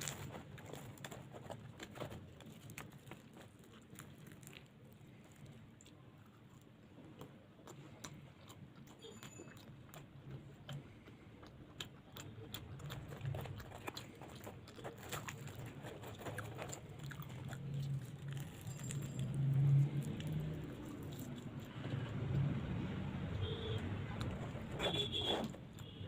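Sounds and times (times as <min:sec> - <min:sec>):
close-up chewing with wet clicks: 0:00.0 - 0:24.7.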